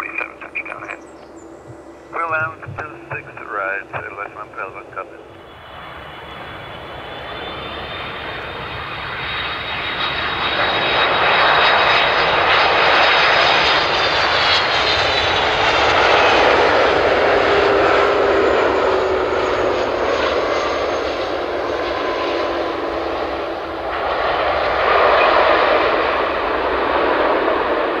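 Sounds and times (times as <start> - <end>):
jet airliner landing: 0.0 - 28.0.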